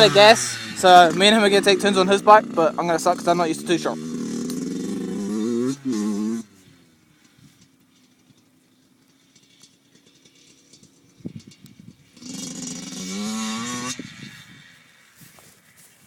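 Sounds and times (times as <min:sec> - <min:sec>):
dirt bike engine revving: 0:00.0 - 0:15.4.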